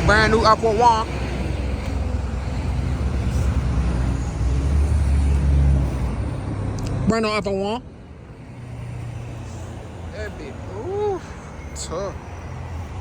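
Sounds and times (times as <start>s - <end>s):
road traffic rumble: 0.0s - 13.0s
vehicle passing: 0.0s - 13.0s.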